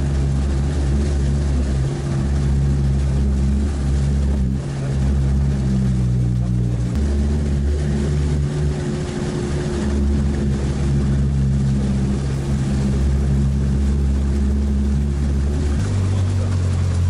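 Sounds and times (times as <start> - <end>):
vehicle engine running under load: 0.0 - 17.0.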